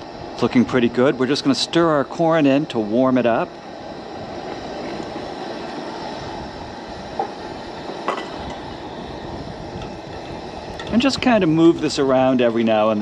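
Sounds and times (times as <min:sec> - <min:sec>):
steady low rushing noise: 0:00.0 - 0:13.0.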